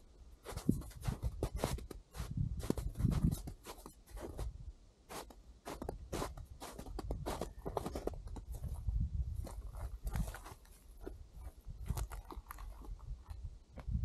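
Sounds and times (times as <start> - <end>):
boots crunching in snow: 0.4 - 4.5, 5.1 - 8.8, 9.4 - 13.0.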